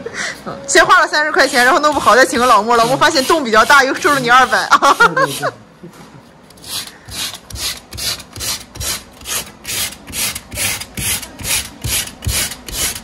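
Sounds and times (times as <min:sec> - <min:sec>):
sandpaper rubbing on drywall: 0:01.6 - 0:05.6, 0:06.6 - 0:13.0.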